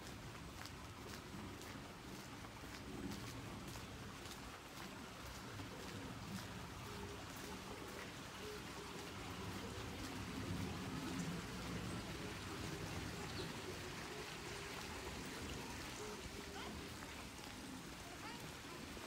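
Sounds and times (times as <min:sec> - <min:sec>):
steady hiss of water: 0:00.0 - 0:19.0.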